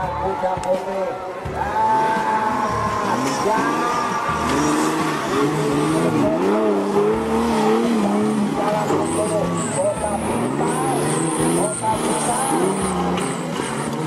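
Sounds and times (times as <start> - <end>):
buggy engines revving: 0.0 - 14.0.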